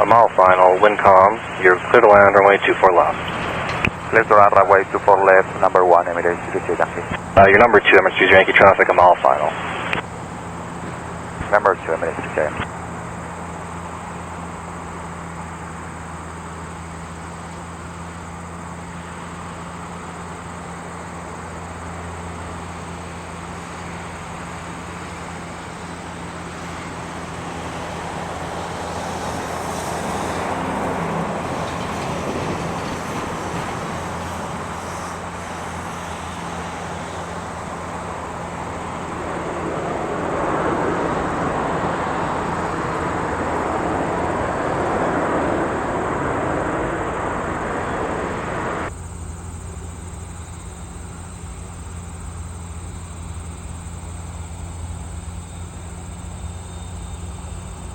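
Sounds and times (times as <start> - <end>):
jet engine rumbling: 0.0 - 57.9.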